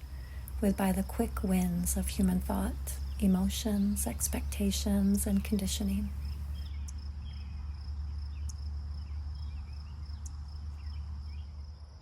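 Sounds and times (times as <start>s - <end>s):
steady low rumble: 0.0s - 11.9s
crickets trilling: 0.0s - 12.0s.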